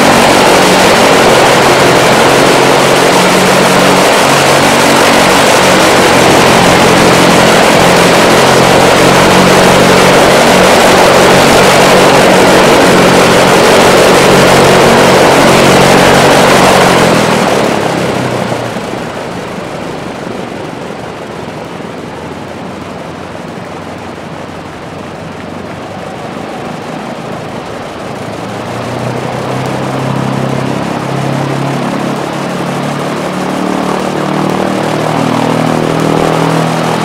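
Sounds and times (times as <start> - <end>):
aircraft engines running: 0.0 - 37.0.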